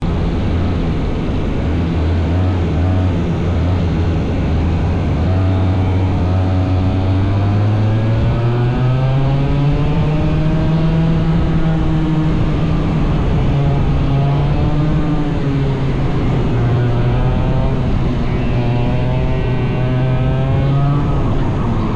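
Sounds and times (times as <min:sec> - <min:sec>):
small racing engine running: 0:00.1 - 0:21.9.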